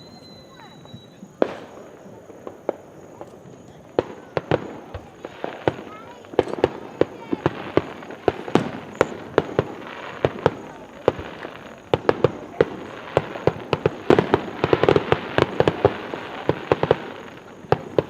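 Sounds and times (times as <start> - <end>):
fireworks shells bursting: 0.0 - 18.0.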